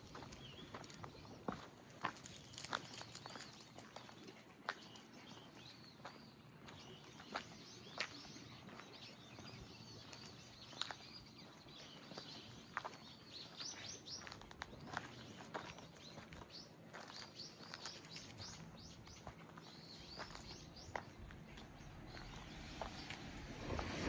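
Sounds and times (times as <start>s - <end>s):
outdoor background: 0.0s - 24.0s
small birds chirping: 0.0s - 24.0s.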